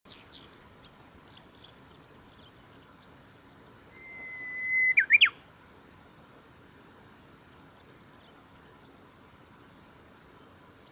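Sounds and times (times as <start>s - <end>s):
bush warbler singing: 0.1s - 5.7s, 6.9s - 10.9s.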